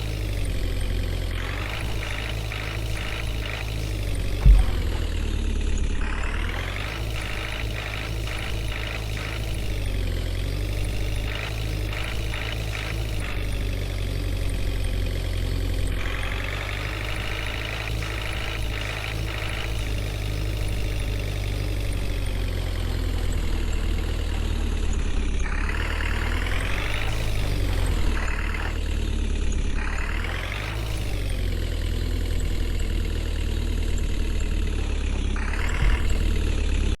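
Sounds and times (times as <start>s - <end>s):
diesel engine revving: 0.0s - 37.0s.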